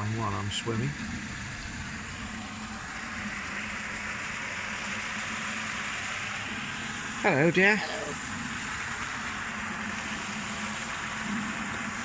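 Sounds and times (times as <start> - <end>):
boat motor humming: 0.0 - 12.0
even hiss: 1.6 - 12.0.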